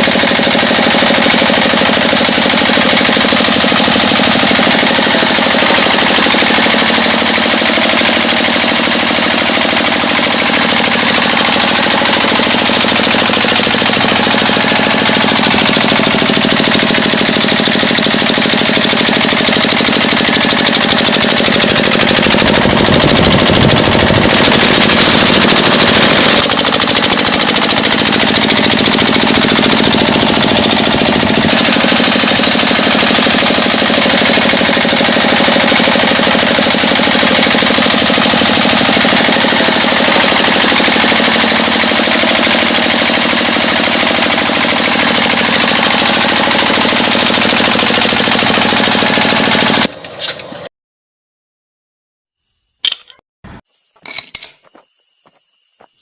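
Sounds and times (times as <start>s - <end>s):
small electric motor rattling: 0.0s - 50.5s.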